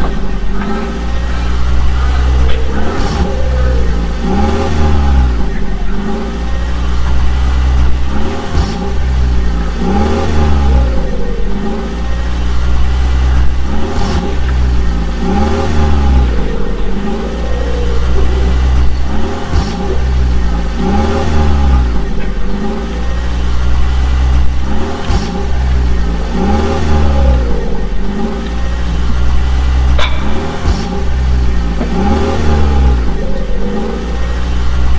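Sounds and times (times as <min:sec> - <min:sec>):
vehicle engine revving: 0:00.0 - 0:34.9.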